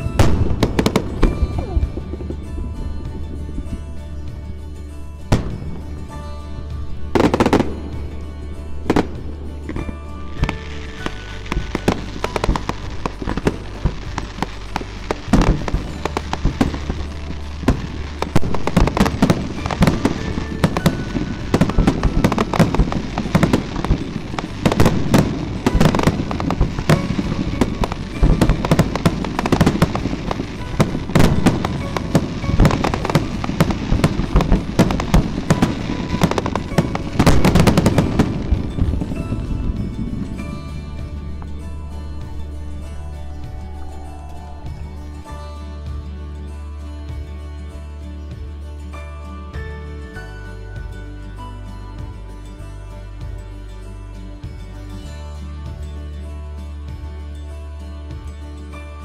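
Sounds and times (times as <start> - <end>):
fireworks bangs and crackles: 0.0 - 47.4.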